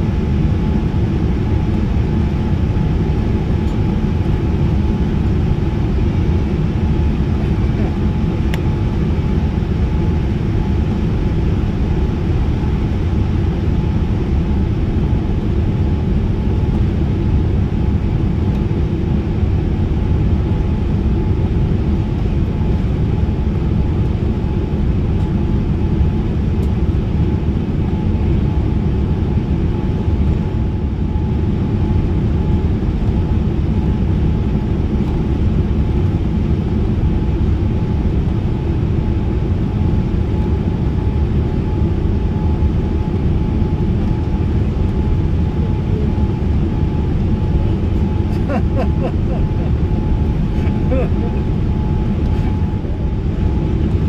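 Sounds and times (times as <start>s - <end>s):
aircraft engine and airflow rush: 0.0s - 54.0s
faint steady whine: 0.0s - 54.0s.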